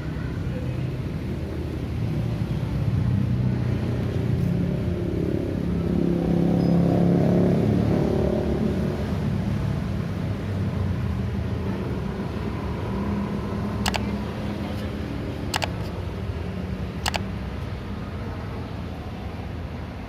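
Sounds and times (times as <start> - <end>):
vehicle engines running: 0.0 - 20.0
vehicle passing close: 1.2 - 20.0.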